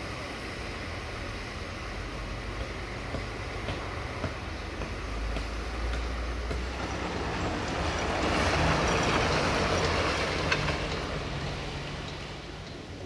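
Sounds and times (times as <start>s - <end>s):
diesel truck driving by: 0.0s - 13.0s.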